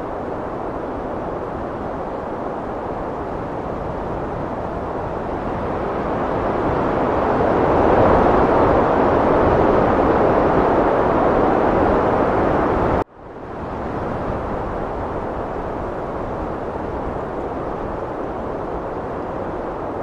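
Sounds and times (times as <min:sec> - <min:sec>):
heavy wind rushing: 0:00.0 - 0:20.0.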